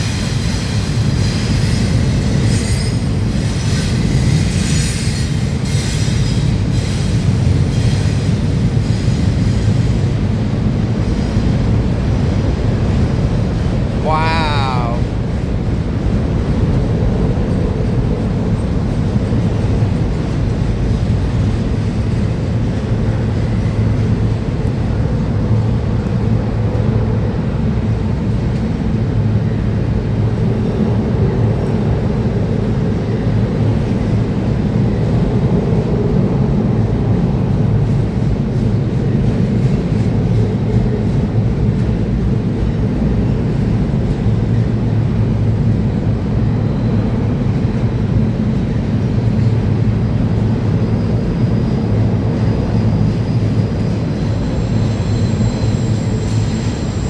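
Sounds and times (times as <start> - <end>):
freight train wheels rumbling on rails: 0.0 - 14.0, 15.0 - 57.0.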